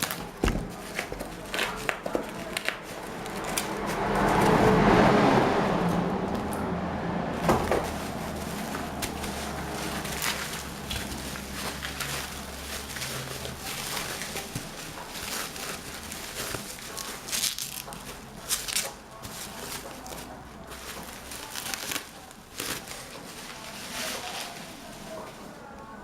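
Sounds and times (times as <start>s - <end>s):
plastic packaging crinkling: 0.0s - 4.0s, 7.4s - 25.3s.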